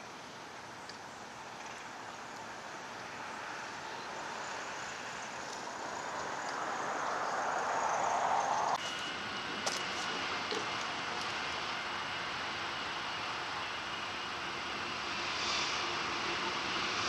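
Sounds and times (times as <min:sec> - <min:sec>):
distant freight train: 0:00.0 - 0:17.0
road traffic: 0:00.0 - 0:17.0.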